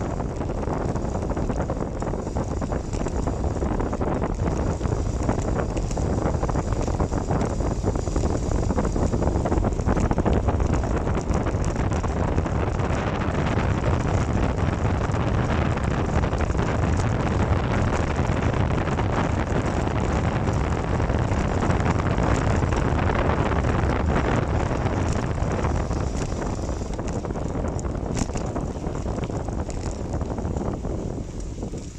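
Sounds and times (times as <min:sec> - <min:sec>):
tyres rushing on wet road: 0:00.0 - 0:31.9
wind buffeting microphone: 0:00.0 - 0:31.9.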